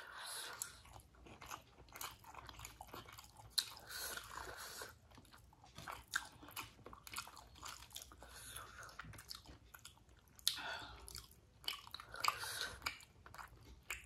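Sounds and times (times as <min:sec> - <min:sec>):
wet chewing smacks and clicks: 0:00.5 - 0:14.0.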